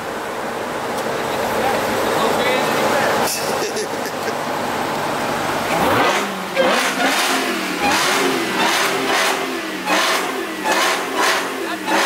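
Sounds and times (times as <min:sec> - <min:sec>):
car engine revving: 0:01.3 - 0:12.0.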